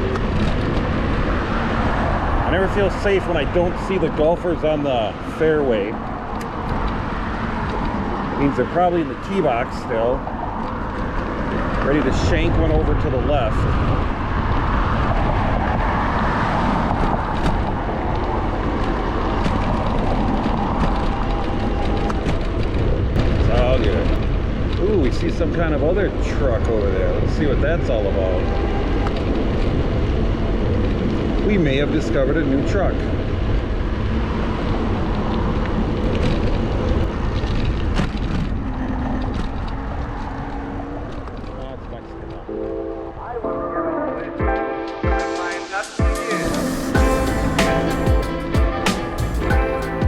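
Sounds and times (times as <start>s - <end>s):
wind rush on microphone: 0.0s - 42.5s
tyre and road noise: 0.0s - 50.0s.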